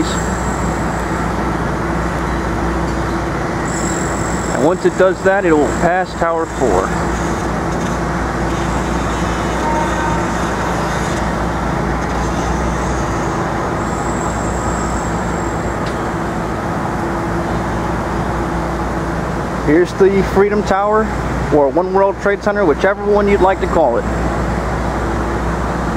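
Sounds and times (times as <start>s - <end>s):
city street traffic: 0.0s - 25.9s.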